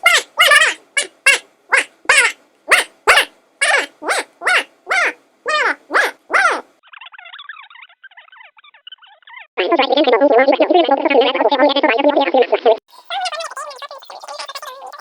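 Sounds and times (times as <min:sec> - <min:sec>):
high-pitched gibberish voice: 0:00.0 - 0:15.0.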